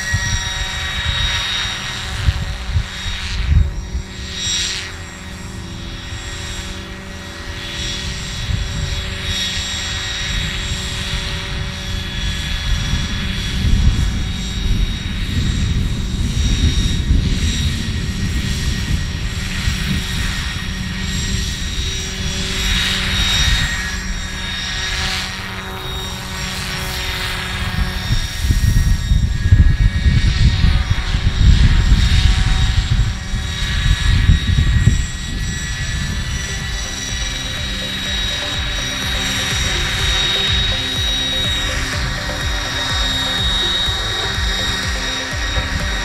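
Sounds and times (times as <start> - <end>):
high whine: 0.0 - 46.0
radio-controlled helicopter flying: 0.0 - 46.0.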